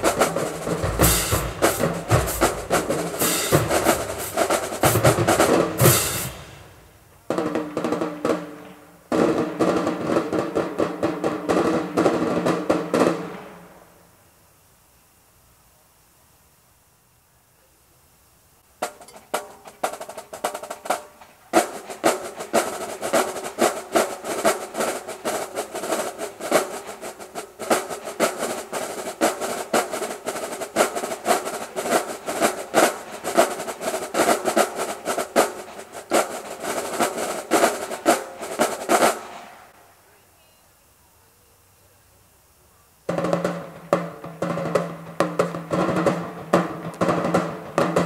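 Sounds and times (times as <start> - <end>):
marching drumline playing: 0.0 - 13.7, 18.8 - 39.7, 43.1 - 48.0.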